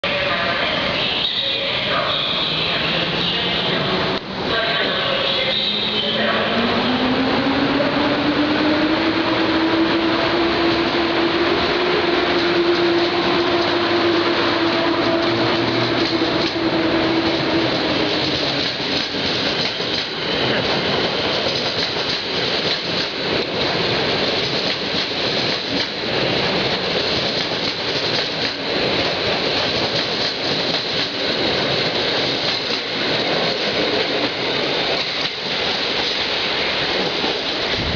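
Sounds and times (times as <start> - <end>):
electric locomotive hum: 0.0 - 37.9
train wheels rolling on rails: 0.2 - 37.9.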